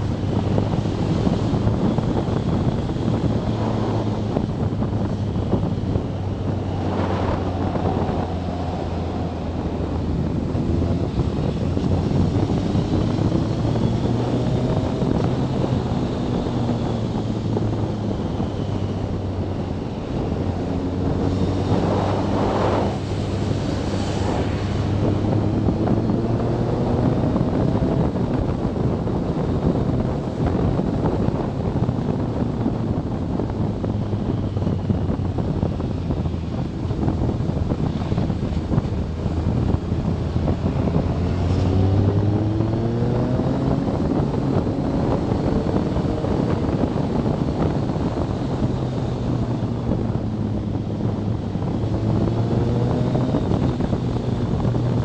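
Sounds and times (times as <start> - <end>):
motorcycle engine revving: 0.0 - 28.5, 36.2 - 55.0
wind rush on microphone: 0.0 - 55.0.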